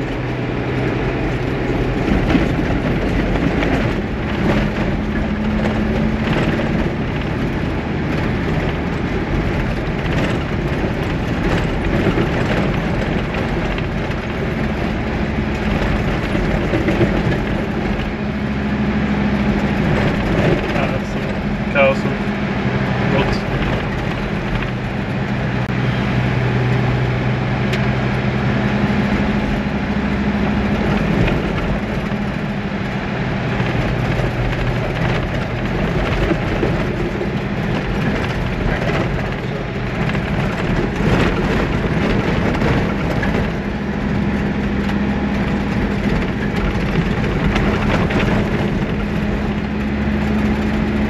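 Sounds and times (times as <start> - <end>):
car engine drone: 0.0 - 51.0.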